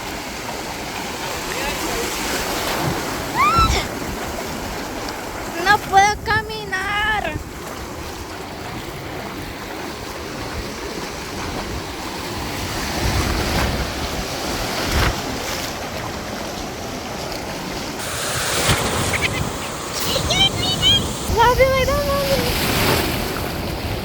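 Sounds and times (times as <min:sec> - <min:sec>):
ocean surf breaking: 0:00.0 - 0:24.0
wind buffeting microphone: 0:00.3 - 0:16.9, 0:17.7 - 0:24.0.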